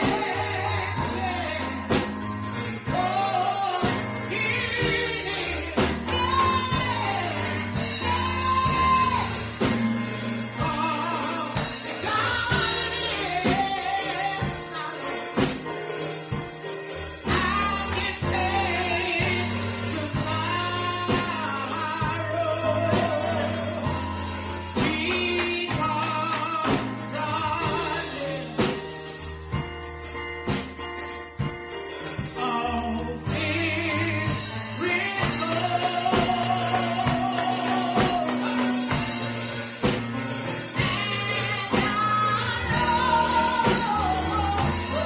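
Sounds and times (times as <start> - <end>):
gospel singing: 0.0 - 29.6, 32.1 - 45.0
band with steady bass line: 0.0 - 45.0
tambourine: 0.0 - 45.0.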